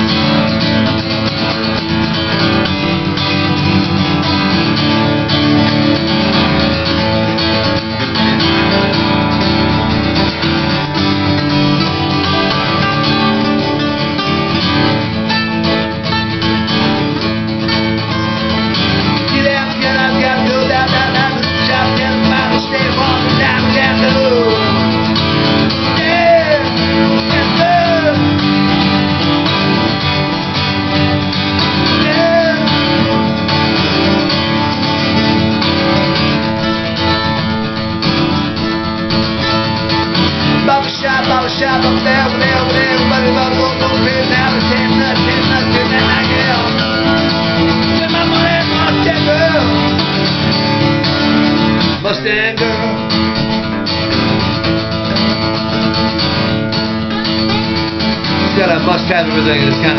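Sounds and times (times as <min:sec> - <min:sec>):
acoustic guitars playing: 0:00.0 - 0:59.9.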